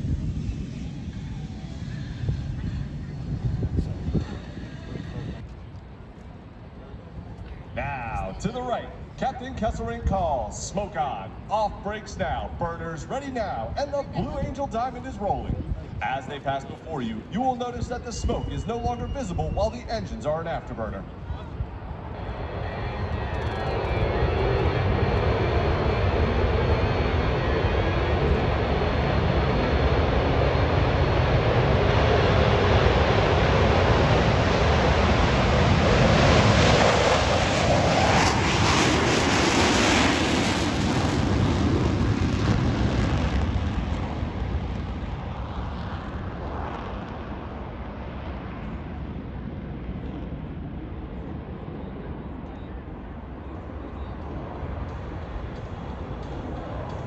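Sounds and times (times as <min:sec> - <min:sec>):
jets taking off in afterburner: 0:00.0 - 0:05.5, 0:07.4 - 0:52.2.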